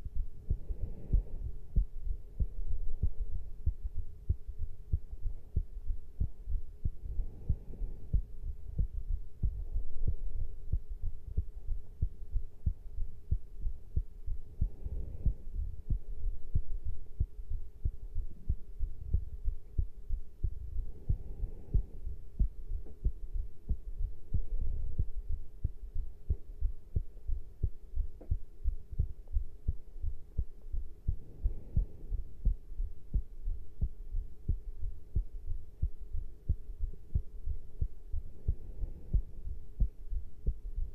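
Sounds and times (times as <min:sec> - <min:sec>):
faint steady hum: 0:00.0 - 0:40.9
heartbeat thuds: 0:00.0 - 0:40.9.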